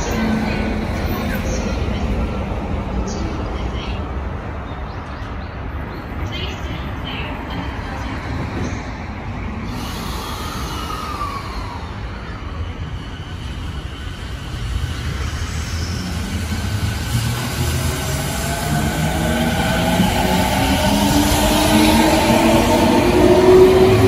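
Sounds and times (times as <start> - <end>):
electric train rumble: 0.0 - 24.0.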